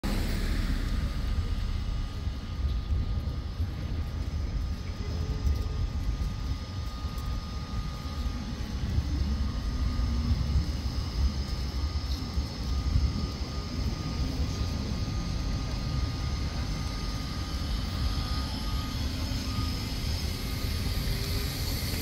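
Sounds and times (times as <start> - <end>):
faint high whine: 0.0 - 22.0
low street rumble: 0.0 - 22.0.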